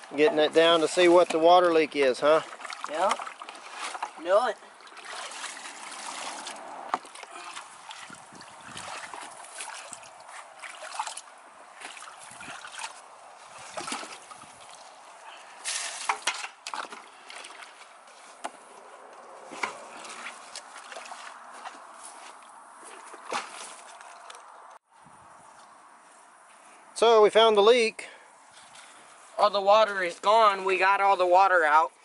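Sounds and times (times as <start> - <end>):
water sloshing and trickling: 0.0 - 24.8, 28.4 - 31.8.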